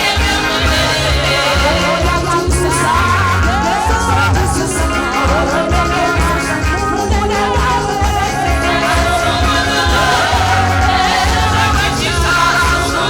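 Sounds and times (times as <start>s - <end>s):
gospel singing over a band: 0.0s - 13.0s.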